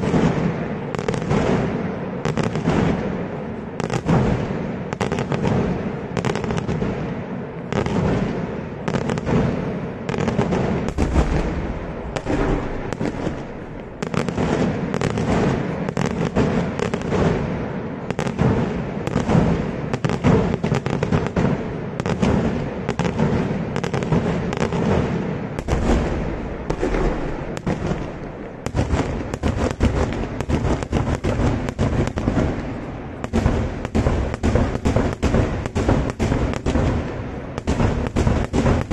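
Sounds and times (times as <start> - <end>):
fireworks bangs and crackling: 0.0 - 38.9
heavy firework booms: 0.0 - 38.9.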